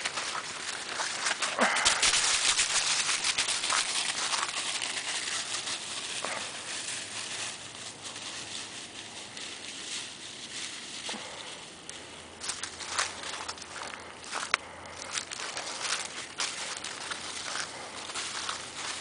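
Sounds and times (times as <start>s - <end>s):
footsteps crunching through dry leaves: 0.0s - 19.0s.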